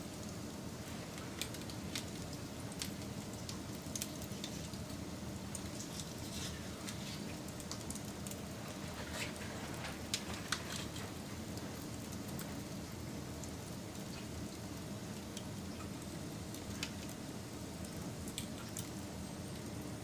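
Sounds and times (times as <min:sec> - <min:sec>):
campfire crackling and popping: 0:00.8 - 0:17.2.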